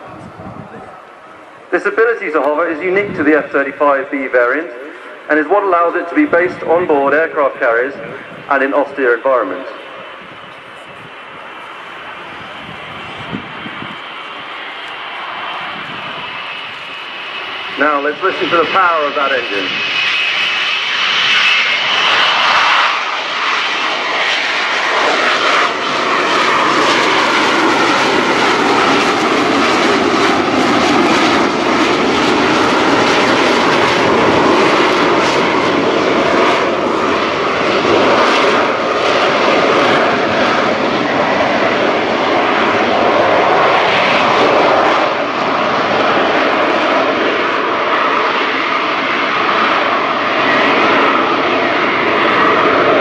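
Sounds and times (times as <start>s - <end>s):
loud steady jet roar: 0.0s - 53.0s.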